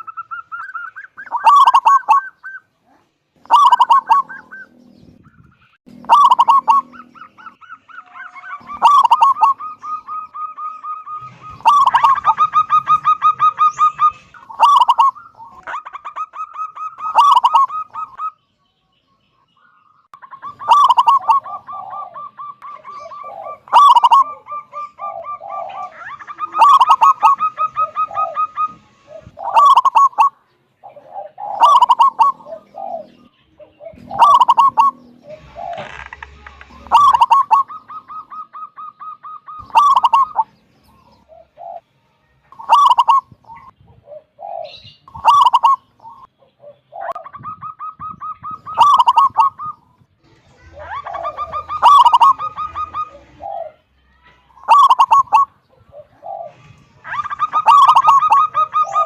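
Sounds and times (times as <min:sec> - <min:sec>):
dove cooing: 0:00.0 - 0:18.4, 0:20.2 - 0:41.9, 0:42.5 - 0:49.9, 0:50.8 - 0:53.8, 0:54.6 - 0:59.0.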